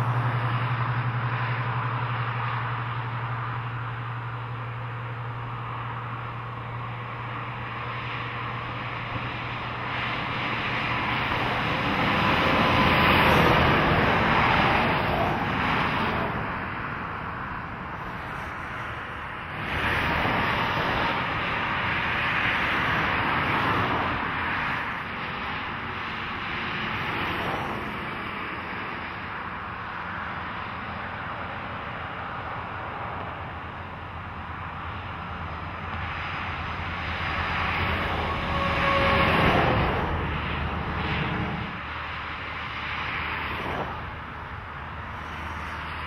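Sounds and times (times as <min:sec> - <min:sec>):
trucks and cars passing: 0:00.0 - 0:46.0.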